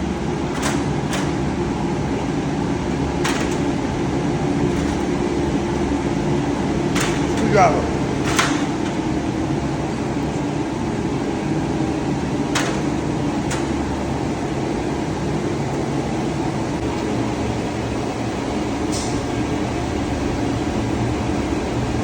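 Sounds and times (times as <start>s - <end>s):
machinery drone: 0.0s - 22.0s.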